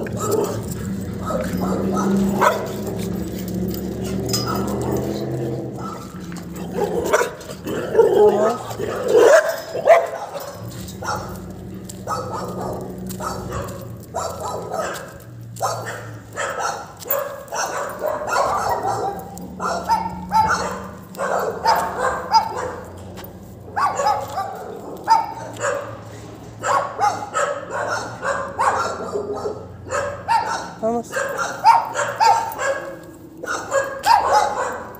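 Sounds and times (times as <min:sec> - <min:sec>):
dog barking: 0:00.0 - 0:03.2, 0:04.0 - 0:23.0, 0:23.7 - 0:34.9.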